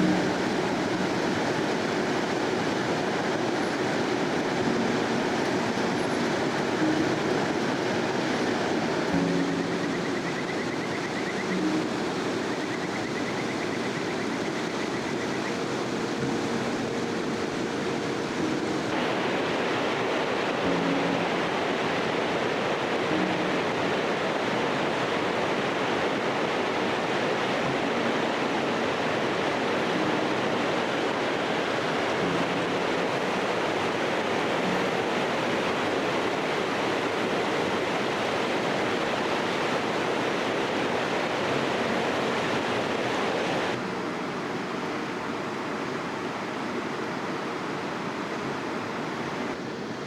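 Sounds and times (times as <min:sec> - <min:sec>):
stream rushing over rocks: 0:00.0 - 0:10.6, 0:15.5 - 0:50.0.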